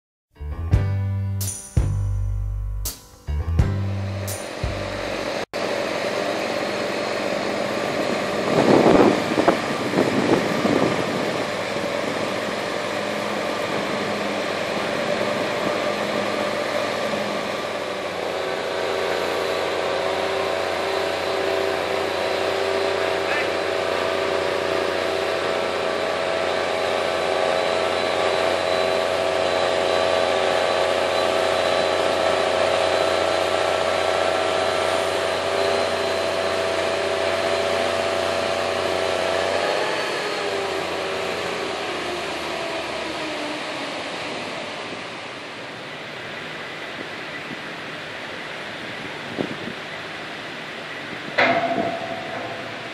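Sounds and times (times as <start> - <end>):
crane diesel engine droning: 0.4 - 52.9.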